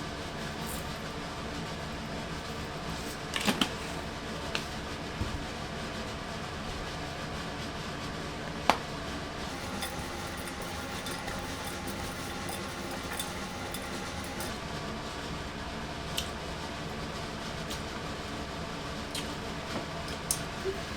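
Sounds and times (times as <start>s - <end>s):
mechanical hum: 0.0s - 20.9s.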